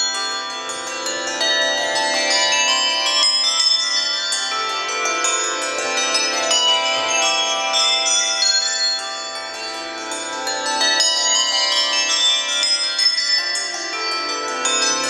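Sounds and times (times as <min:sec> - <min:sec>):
handbells ringing: 0:00.0 - 0:15.0.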